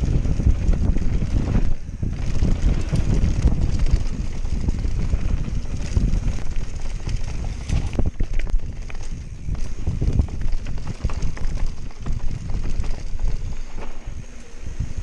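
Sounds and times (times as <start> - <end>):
bike rattling and knocking: 0.0 - 14.2
tyres rumbling over dirt: 0.0 - 15.0
wind buffeting microphone: 0.0 - 15.0.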